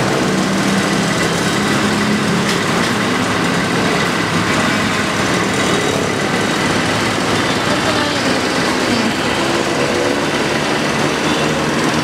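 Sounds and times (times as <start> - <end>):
street traffic noise: 0.0 - 12.0
vehicle engine running nearby: 0.0 - 12.0.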